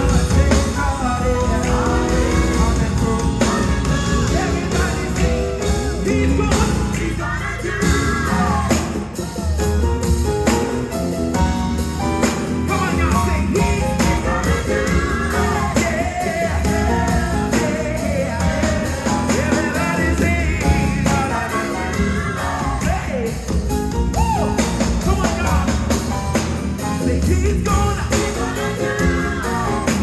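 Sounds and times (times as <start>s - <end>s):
band playing bass drums guitar: 0.0s - 30.0s
gospel choir singing: 0.0s - 30.0s.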